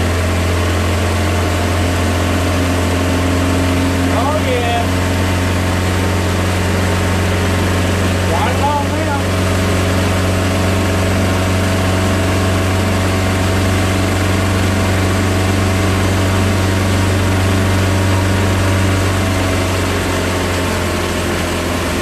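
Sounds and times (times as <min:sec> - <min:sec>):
motorboat engine droning: 0:00.0 - 0:22.0.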